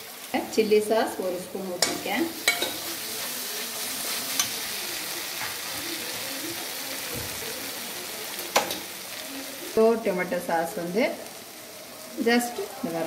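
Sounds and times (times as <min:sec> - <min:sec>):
masala sizzling in a pan: 0:00.0 - 0:13.0.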